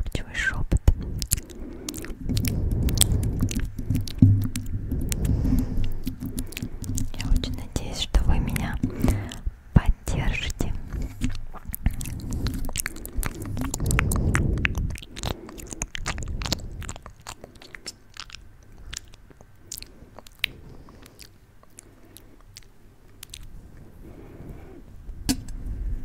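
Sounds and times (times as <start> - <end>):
lip smacks and tongue clicks: 0.0 - 23.9
low rumble: 0.1 - 21.0, 22.6 - 26.0.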